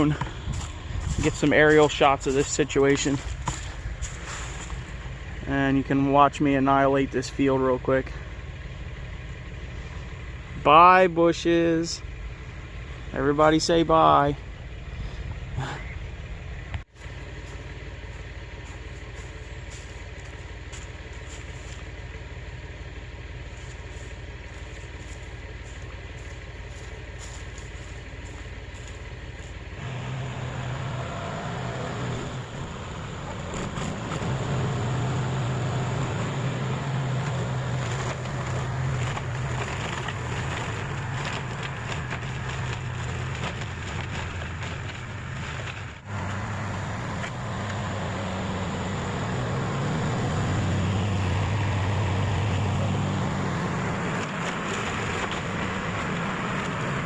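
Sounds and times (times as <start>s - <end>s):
heavy machine engine running: 0.0s - 11.0s, 14.4s - 57.0s.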